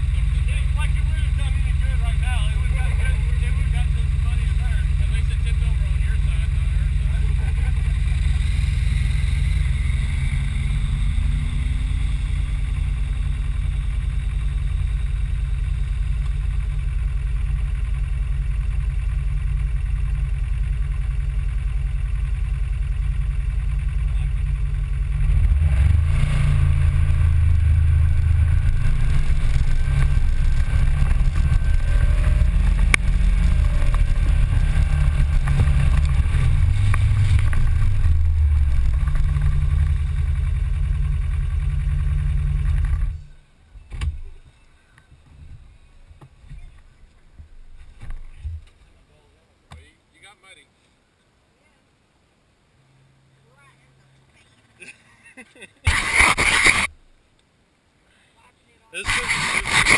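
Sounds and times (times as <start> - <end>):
off-road vehicle engine: 0.0 - 59.9.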